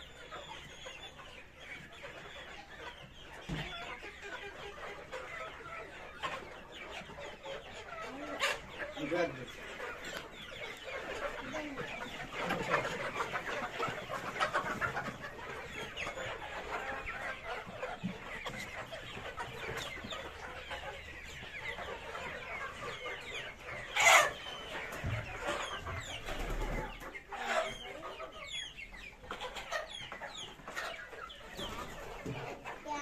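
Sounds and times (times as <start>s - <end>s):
chickens peeping and clucking: 0.0s - 33.0s.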